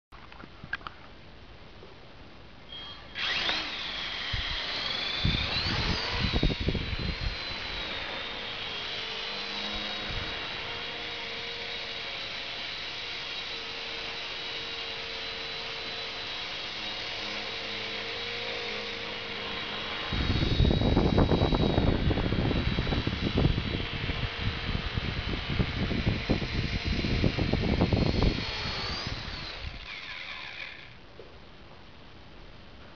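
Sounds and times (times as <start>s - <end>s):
rc helicopter motor whine: 2.7s - 31.0s.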